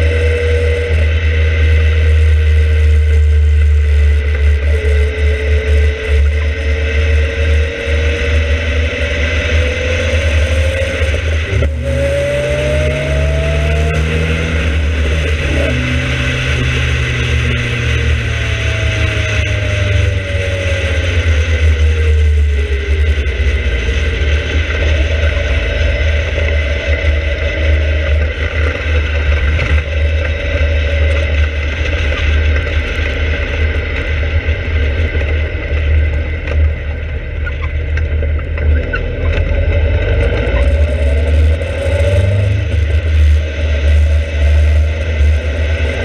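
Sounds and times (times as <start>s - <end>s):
heavy wind rumble: 0.0s - 46.0s
sports car engine: 0.0s - 46.0s.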